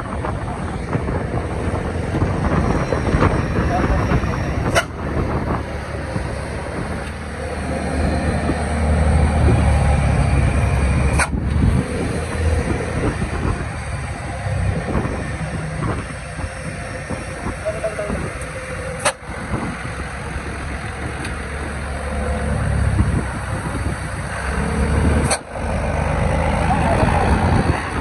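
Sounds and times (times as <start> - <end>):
road vehicle rumble: 0.0 - 28.0.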